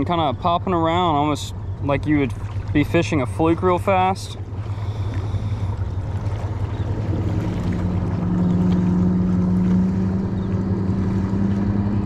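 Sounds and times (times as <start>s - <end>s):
motorboat engine humming: 0.0s - 12.0s.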